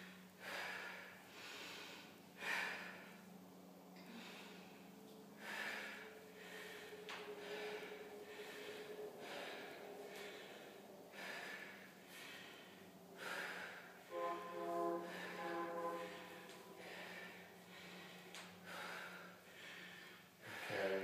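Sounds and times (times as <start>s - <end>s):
woman breathing hard: 0.0s - 21.0s.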